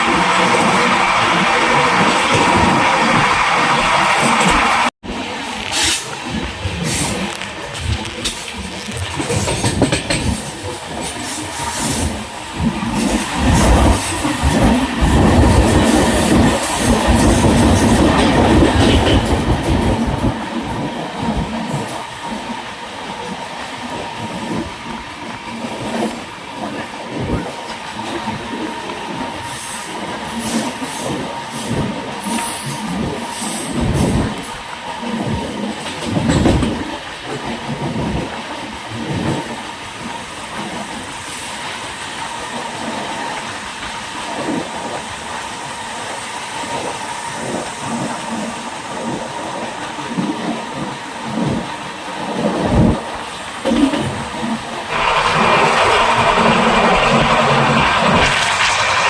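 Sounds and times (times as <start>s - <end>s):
wheels clattering over rail joints: 0.0s - 22.6s, 25.5s - 40.9s, 47.5s - 59.0s
train rumbling: 0.0s - 59.0s.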